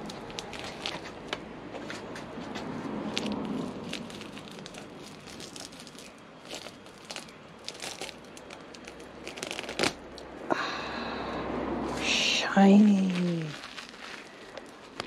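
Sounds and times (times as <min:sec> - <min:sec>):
plastic film peeling and crinkling: 0:00.0 - 0:10.3, 0:11.9 - 0:15.0.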